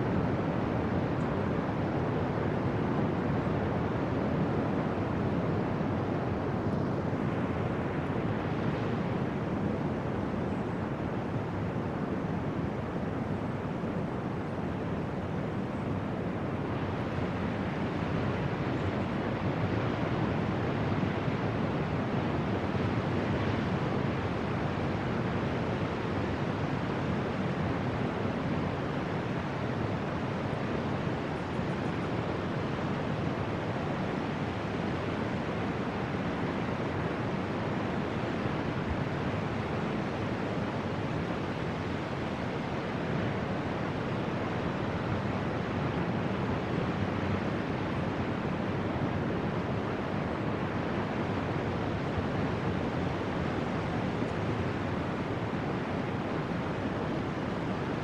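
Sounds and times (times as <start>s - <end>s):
wind: 0.0s - 58.0s.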